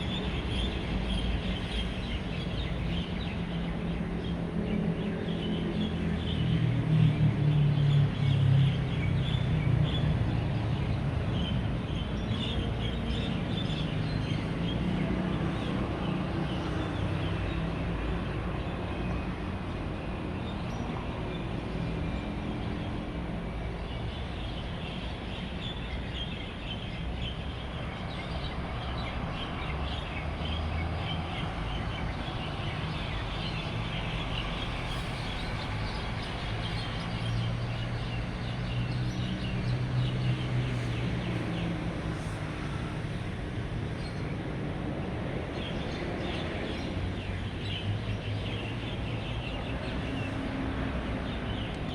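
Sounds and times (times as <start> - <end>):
road traffic rumble: 0.0 - 51.9.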